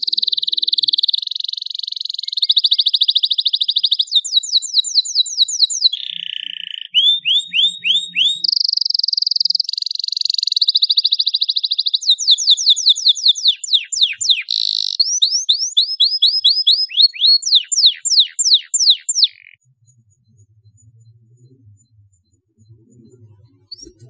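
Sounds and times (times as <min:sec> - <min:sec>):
canary singing: 0:00.0 - 0:19.6.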